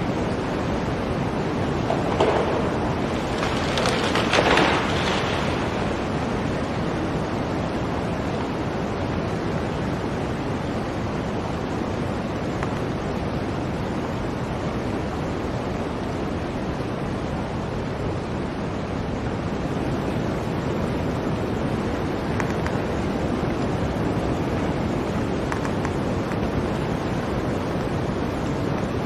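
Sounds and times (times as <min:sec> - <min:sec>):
blizzard wind blowing: 0:00.0 - 0:29.0.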